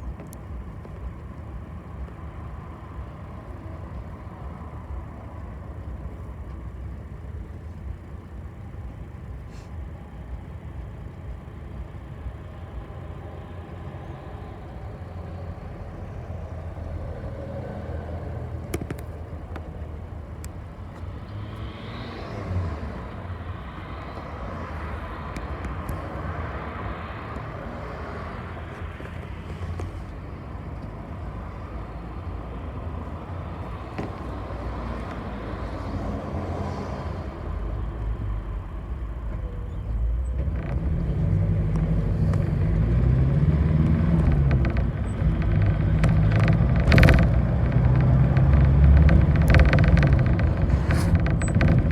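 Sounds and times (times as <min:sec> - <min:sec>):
bus engine rumble: 0:00.0 - 0:51.9
road noise: 0:00.0 - 0:51.9.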